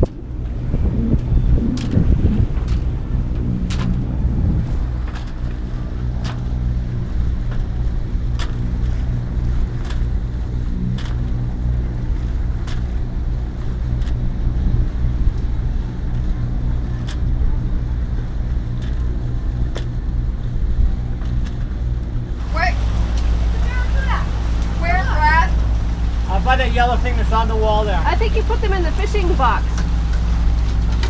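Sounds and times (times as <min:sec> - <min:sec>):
boat engine droning: 0:00.0 - 0:31.0
wind buffeting microphone: 0:00.0 - 0:31.0.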